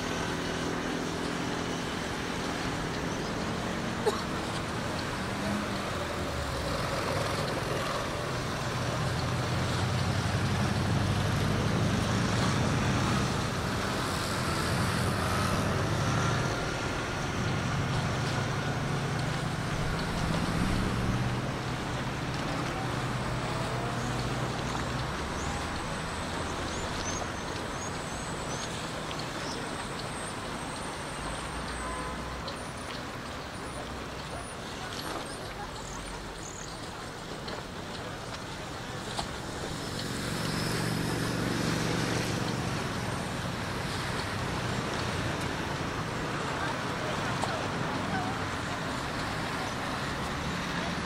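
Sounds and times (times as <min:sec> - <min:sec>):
traffic wash: 0:00.0 - 0:51.0
vehicle engine rumble: 0:00.0 - 0:51.0
water against seawall: 0:00.0 - 0:51.0.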